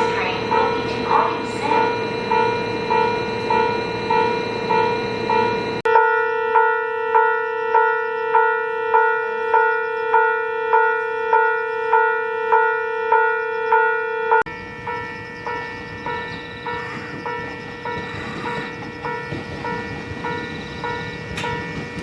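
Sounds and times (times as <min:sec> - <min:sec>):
electronic departure bell ringing: 0:00.0 - 0:22.0.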